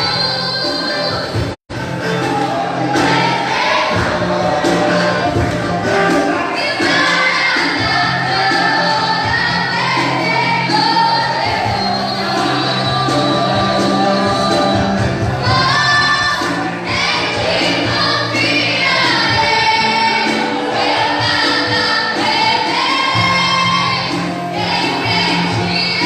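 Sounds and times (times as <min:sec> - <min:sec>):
gospel choir singing: 0:00.0 - 0:26.0
instrumental backing music: 0:00.0 - 0:26.0.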